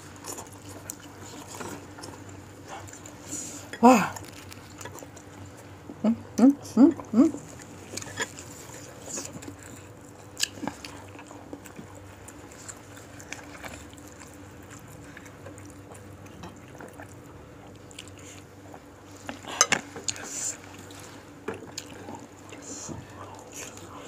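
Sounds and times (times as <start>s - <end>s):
person chewing food: 0.0s - 6.0s, 7.0s - 24.0s.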